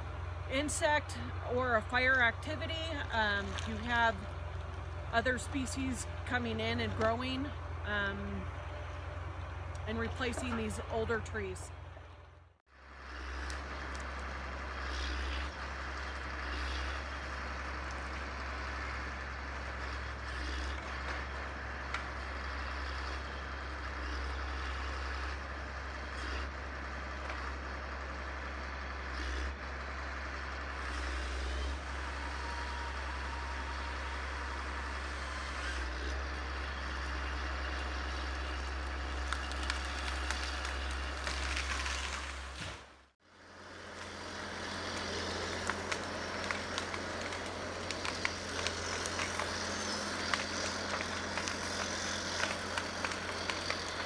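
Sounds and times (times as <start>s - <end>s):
diesel machinery engine rumble: 0.0s - 54.0s.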